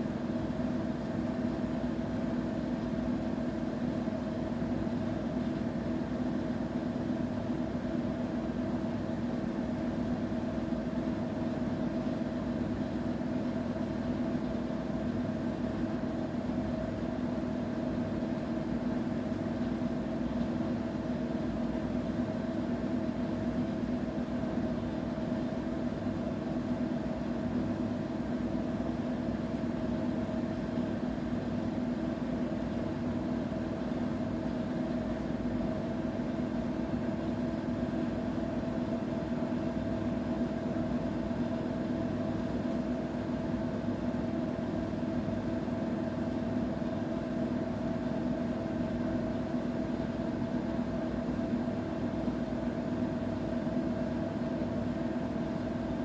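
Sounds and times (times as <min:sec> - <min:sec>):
washing machine humming: 0:00.1 - 0:56.0.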